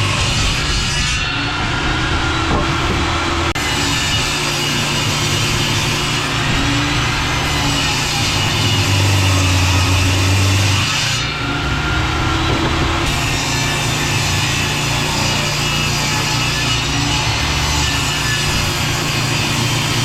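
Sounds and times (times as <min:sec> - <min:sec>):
table saw ripping boards: 0:00.0 - 0:20.0.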